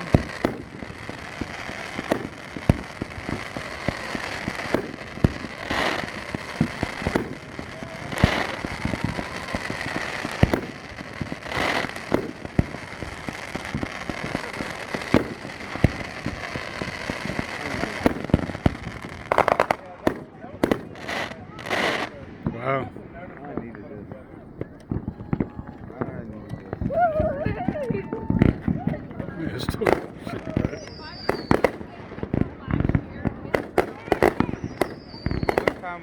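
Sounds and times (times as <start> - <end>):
fireworks booming: 0.0 - 36.0
fireworks crackling: 0.0 - 36.0.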